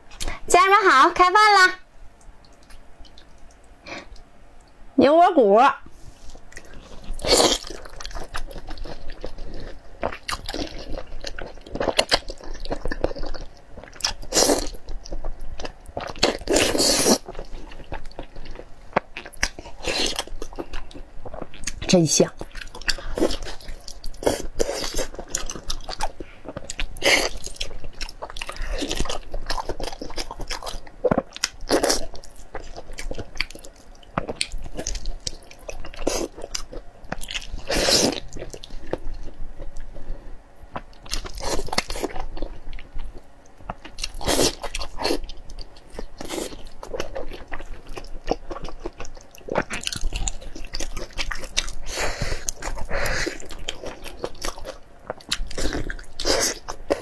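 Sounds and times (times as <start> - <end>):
person biting and chewing meat: 6.3 - 21.8, 22.4 - 40.0, 40.7 - 57.0.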